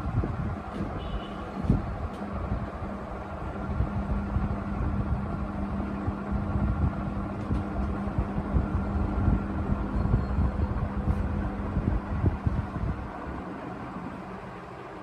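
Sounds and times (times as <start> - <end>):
airflow buffeting microphone: 0.0 - 15.0
ceiling fan motor humming: 0.0 - 15.0.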